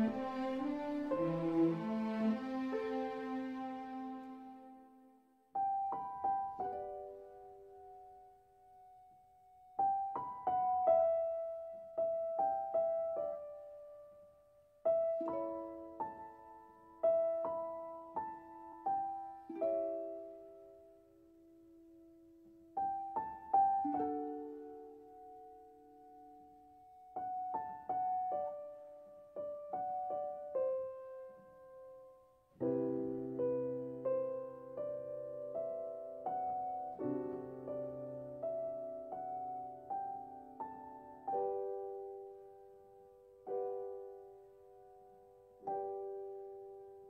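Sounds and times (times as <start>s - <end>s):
slow solo piano: 0.0s - 47.0s.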